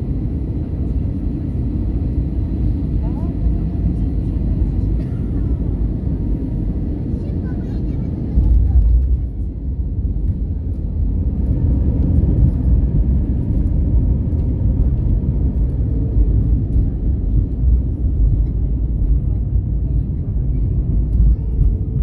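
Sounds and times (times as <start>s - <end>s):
engine rumble in cabin: 0.0s - 22.0s.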